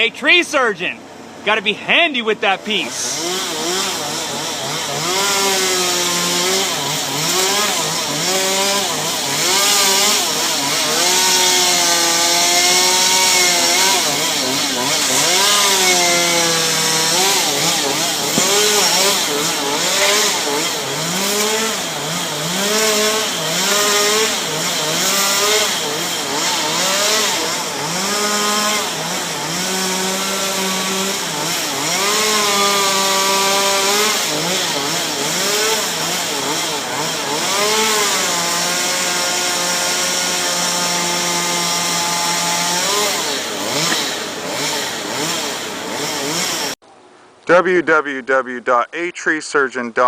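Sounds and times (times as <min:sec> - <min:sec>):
chainsaw revving: 0:00.0 - 0:46.8.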